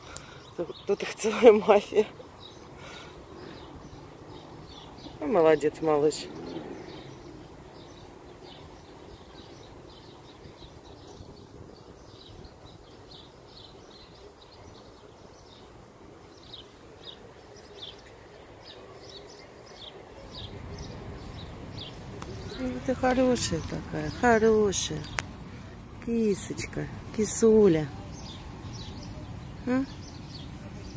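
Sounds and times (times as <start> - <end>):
low outdoor hum: 0.0 - 30.9
small birds chirping: 0.0 - 30.9.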